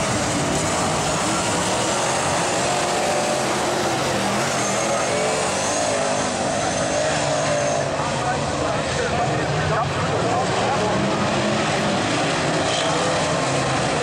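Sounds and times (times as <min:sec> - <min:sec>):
race car engines wavering: 0:00.0 - 0:14.0.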